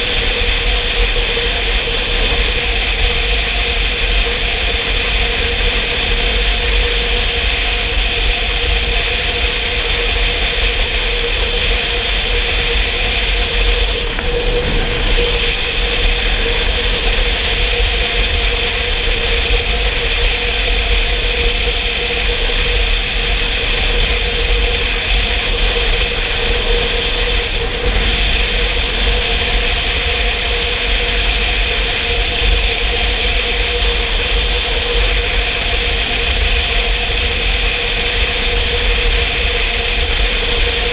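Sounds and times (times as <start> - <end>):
motorcycle engine and road drone: 0.0 - 40.9
wind rumble on microphone: 0.0 - 40.9.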